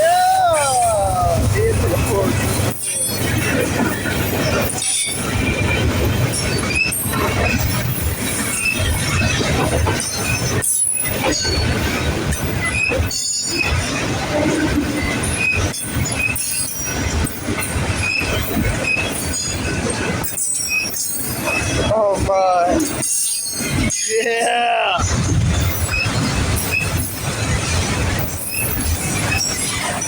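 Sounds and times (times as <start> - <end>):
freight train rumbling and rattling: 0.0 - 30.0.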